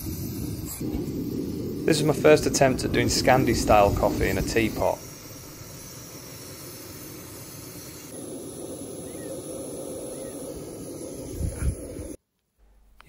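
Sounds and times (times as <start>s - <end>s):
camping stove burner hissing: 0.0s - 12.2s.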